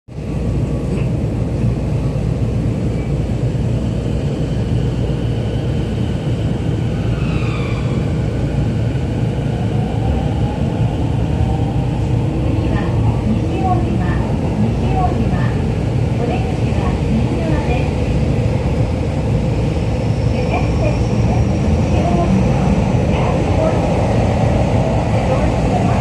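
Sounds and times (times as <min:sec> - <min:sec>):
train wheels rumbling: 0:00.3 - 0:26.0.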